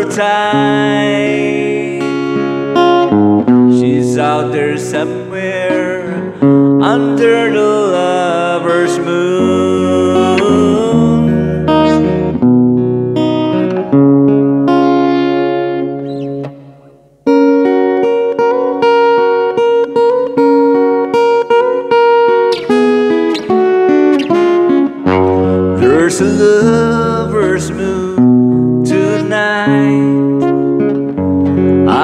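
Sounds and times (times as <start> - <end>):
acoustic guitar chords: 0.0 - 32.0.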